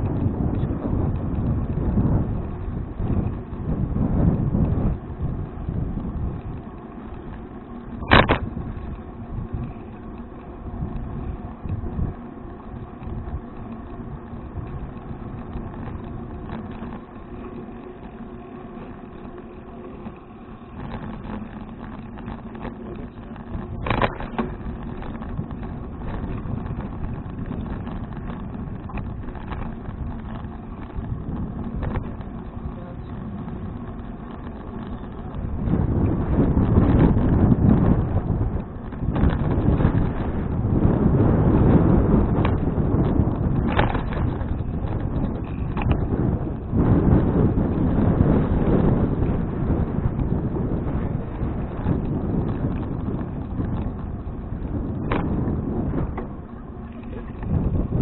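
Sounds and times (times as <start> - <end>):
bicycle tyre and wind rumble: 0.0 - 58.0.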